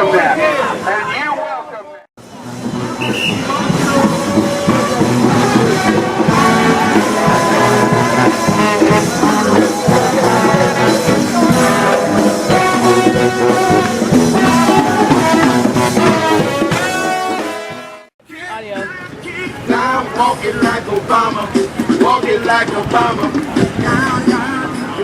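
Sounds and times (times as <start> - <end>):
band playing music: 2.2 - 25.0.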